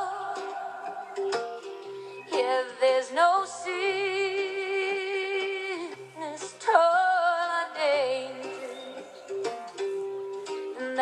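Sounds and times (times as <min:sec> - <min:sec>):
woman singing with vibrato: 0:00.0 - 0:09.4, 0:10.7 - 0:11.0
bluegrass music on radio: 0:00.0 - 0:11.0.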